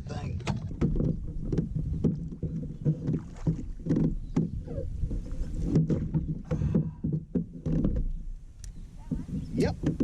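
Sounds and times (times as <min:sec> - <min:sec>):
water sloshing against hull: 0:00.0 - 0:10.0
knocks and clicks on boat: 0:00.2 - 0:10.0.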